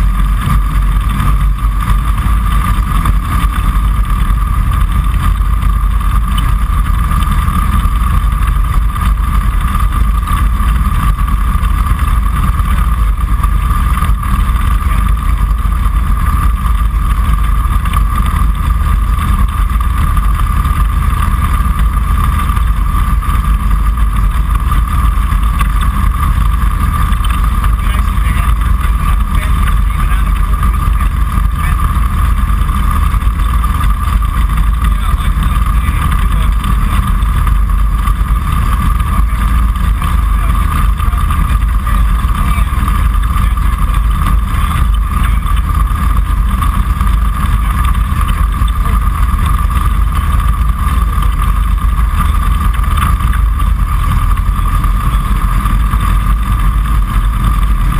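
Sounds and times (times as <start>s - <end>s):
light aircraft engine and propeller: 0.0s - 57.9s
steady whine: 0.0s - 57.9s.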